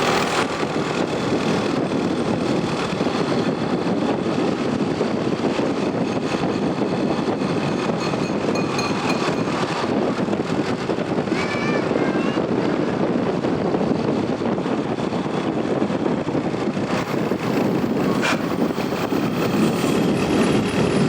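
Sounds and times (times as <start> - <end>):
bus diesel engine rumble: 0.0 - 21.0.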